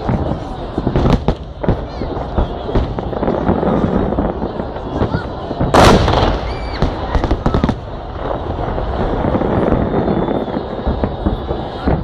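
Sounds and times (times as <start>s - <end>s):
fireworks booming and crackling: 0.0s - 12.0s.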